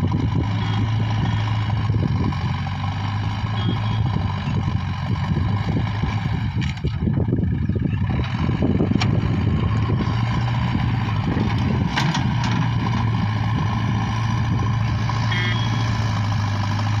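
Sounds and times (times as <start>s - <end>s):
diesel engine running: 0.0s - 17.0s
loader bucket pushing earth: 0.0s - 17.0s.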